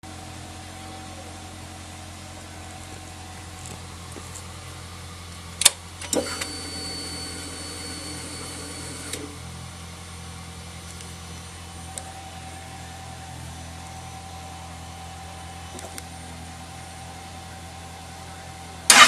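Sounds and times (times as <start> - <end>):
steady whine: 0.0 - 19.0
low hum: 2.4 - 19.0.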